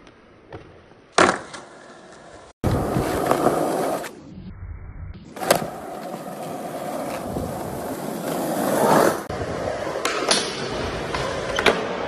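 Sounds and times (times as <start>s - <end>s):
skateboard wheels rolling on concrete: 0.0s - 4.2s, 5.3s - 12.0s.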